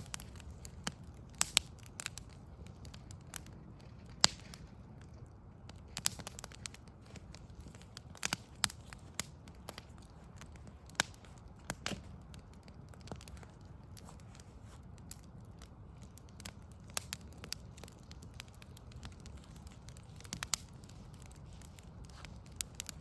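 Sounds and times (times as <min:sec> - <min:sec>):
low fire rumble: 0:00.0 - 0:23.0
sharp pops and snaps: 0:00.0 - 0:23.0
wood fire crackling: 0:00.0 - 0:23.0.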